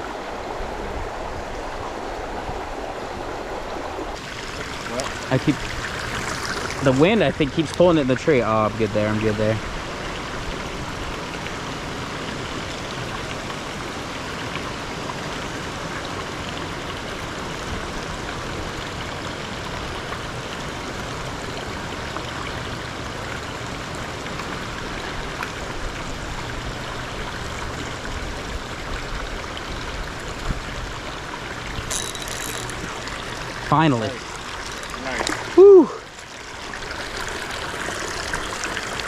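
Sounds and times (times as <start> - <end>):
creek water flowing: 0.0 - 39.0.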